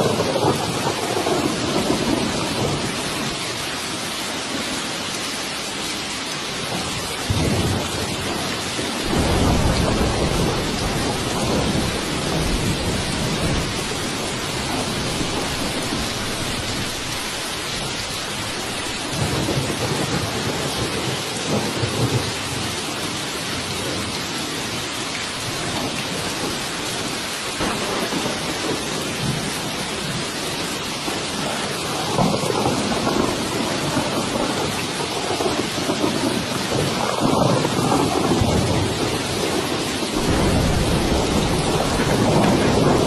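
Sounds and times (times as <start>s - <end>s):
low thunder rumbling: 0.0s - 4.1s, 6.5s - 22.9s, 23.5s - 43.0s
heavy rain: 0.0s - 43.0s.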